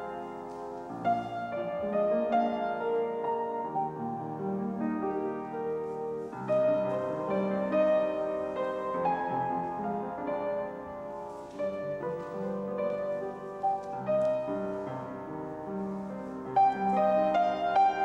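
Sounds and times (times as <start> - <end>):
slow piano piece: 0.0 - 18.0.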